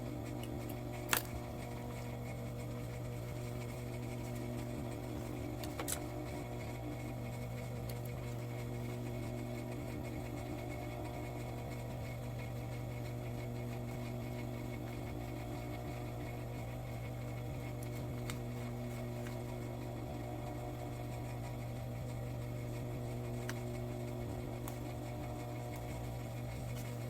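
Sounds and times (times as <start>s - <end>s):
sewing machine motor humming: 0.0s - 27.0s.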